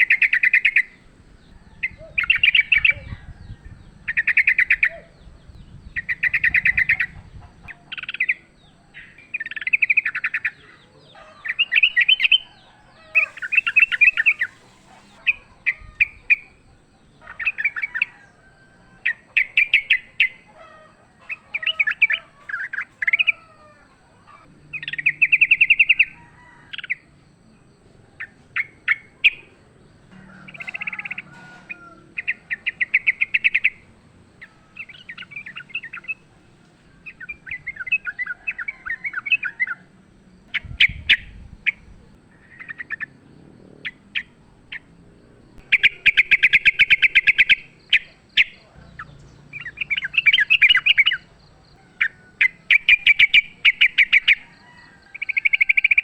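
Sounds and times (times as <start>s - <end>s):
bulbuls singing and chattering: 0.0s - 18.4s, 19.0s - 27.0s, 27.7s - 45.0s, 45.6s - 56.0s.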